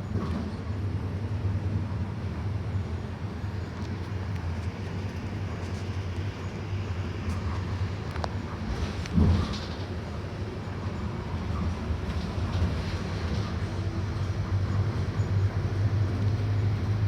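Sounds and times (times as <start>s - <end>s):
bus diesel engine humming: 0.0s - 17.0s
road noise: 0.0s - 17.0s.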